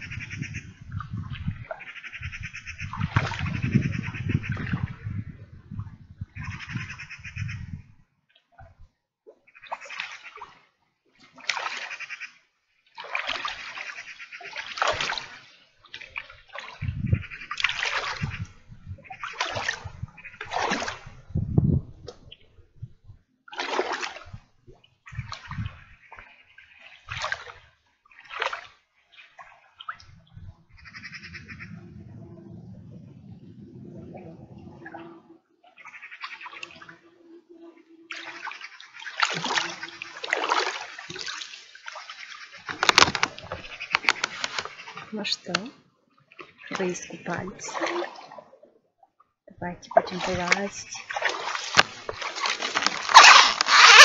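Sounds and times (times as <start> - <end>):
person wading through water: 0.0 - 7.5, 8.3 - 22.5, 23.5 - 54.0.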